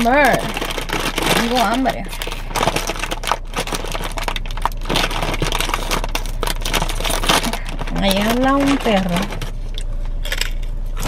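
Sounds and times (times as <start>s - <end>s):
plastic snack bag crinkling: 0.0s - 11.0s.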